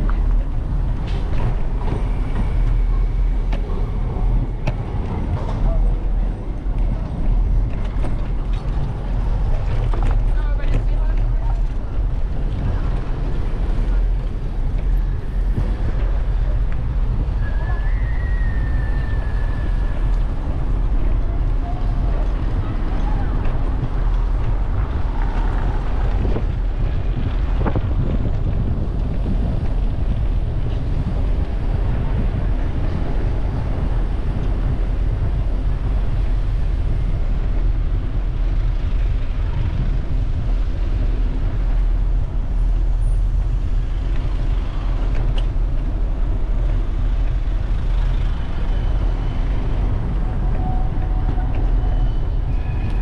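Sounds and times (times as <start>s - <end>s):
city street traffic rumble: 0.0s - 53.0s.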